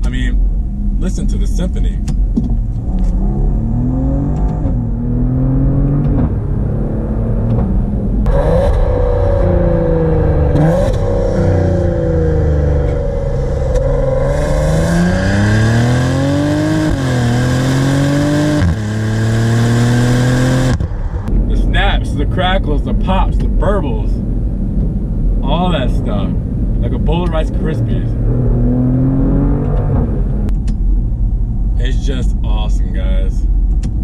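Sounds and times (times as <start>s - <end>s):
car engine accelerating hard: 2.5s - 24.2s, 25.4s - 32.1s.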